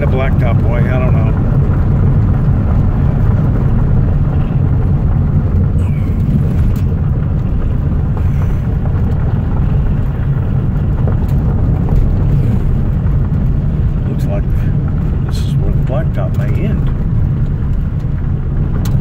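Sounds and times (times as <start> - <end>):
car engine rumble: 0.0 - 19.0
tyre noise on road: 0.0 - 19.0.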